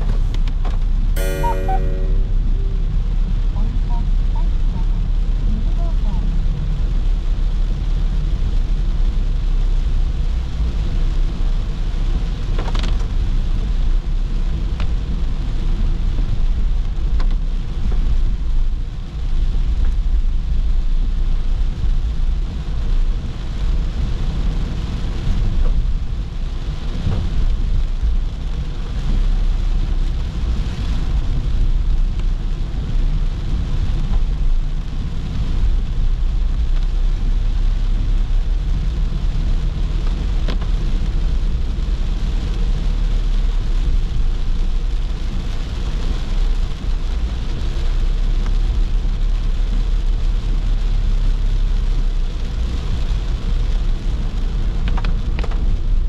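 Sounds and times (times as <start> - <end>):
car driving on wet road: 0.0 - 1.2, 2.8 - 56.0.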